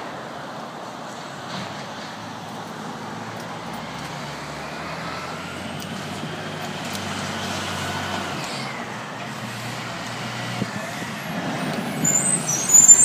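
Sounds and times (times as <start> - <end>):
diesel truck engine droning: 2.0 - 13.0.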